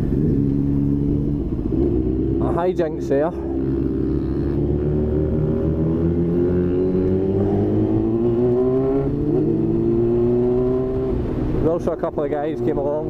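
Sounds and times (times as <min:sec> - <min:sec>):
motorcycle engine accelerating: 0:00.0 - 0:11.6.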